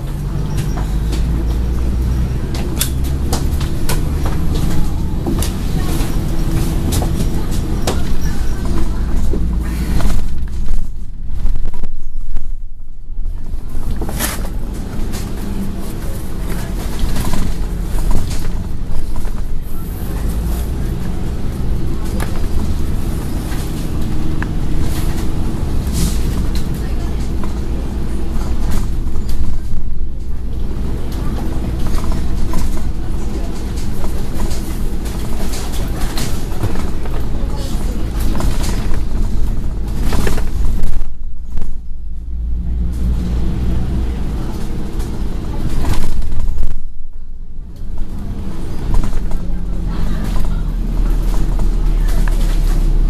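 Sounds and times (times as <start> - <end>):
bus diesel engine running: 0.0 - 53.0
interior clicks and rattles: 0.0 - 53.0.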